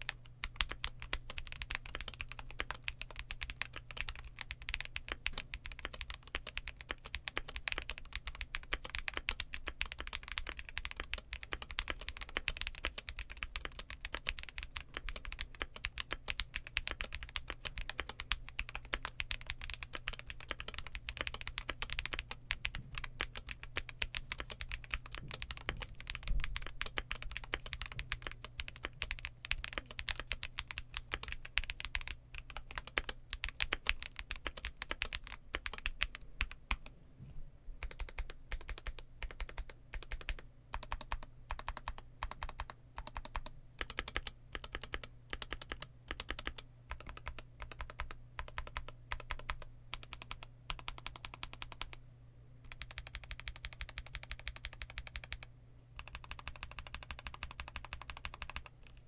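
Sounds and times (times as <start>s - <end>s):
mechanical keyboard typing: 0.0s - 36.9s, 37.8s - 52.0s, 52.6s - 59.0s.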